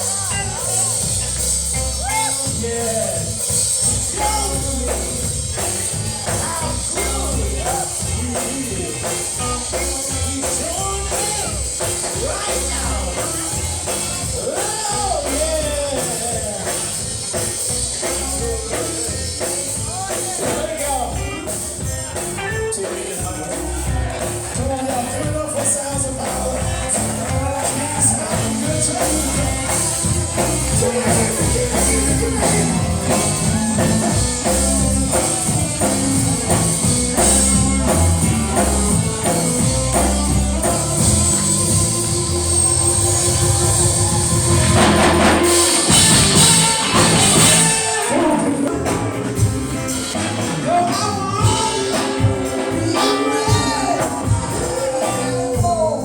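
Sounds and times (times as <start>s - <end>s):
gospel band playing: 0.0s - 56.0s
person singing: 0.0s - 56.0s.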